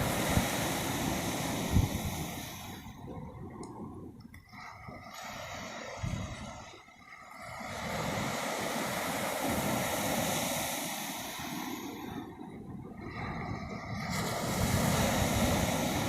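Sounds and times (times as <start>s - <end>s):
ocean wave rushing: 0.0s - 16.0s
wind on microphone: 0.0s - 16.0s.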